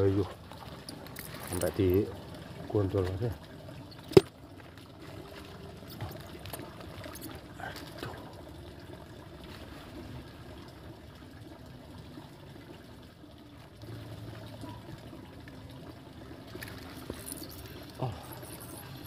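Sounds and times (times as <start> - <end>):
water trickling: 0.0 - 19.0.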